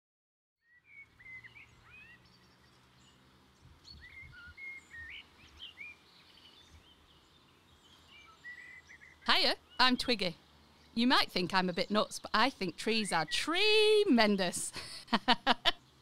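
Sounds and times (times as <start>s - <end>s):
birds chirping and whistling: 0.6s - 14.0s.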